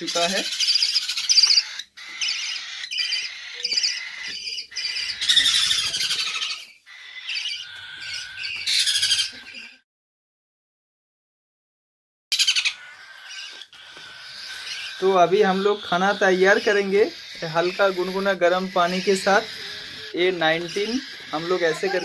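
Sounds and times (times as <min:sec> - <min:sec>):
parrot chicks squawking: 0:00.0 - 0:09.8, 0:12.3 - 0:22.0.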